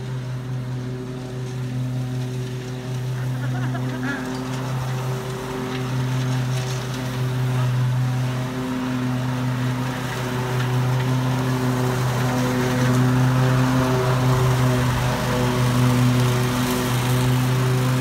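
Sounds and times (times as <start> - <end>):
riding mower engine droning: 0.0 - 18.0.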